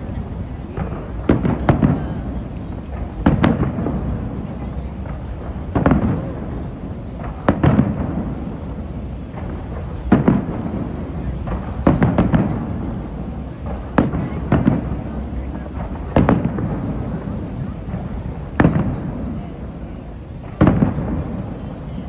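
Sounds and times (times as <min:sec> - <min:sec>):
fireworks exploding with bangs: 0:00.0 - 0:22.0.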